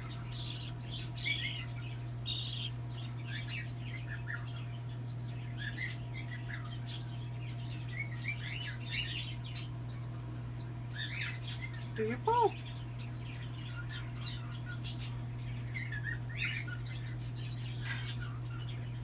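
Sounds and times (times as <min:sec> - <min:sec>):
steady low hum: 0:00.0 - 0:19.0
young bird chirping: 0:00.0 - 0:19.0.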